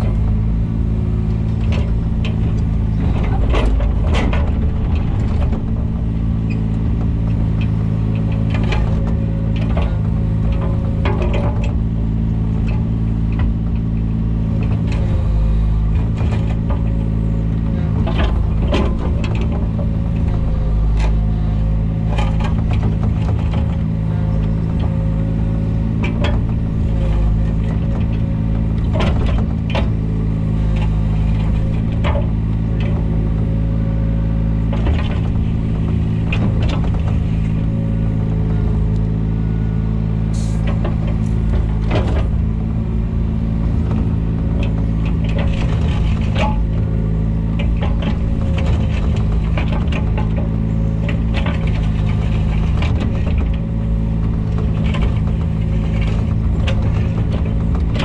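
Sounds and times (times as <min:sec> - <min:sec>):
diesel engine running: 0:00.0 - 0:58.0
machine knocks and clanks: 0:00.0 - 0:58.0.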